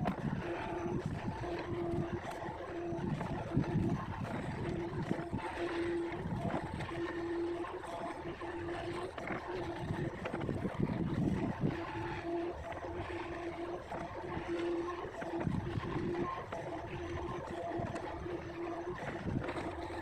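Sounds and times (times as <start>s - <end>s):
excavator engine whine: 0.0s - 20.0s.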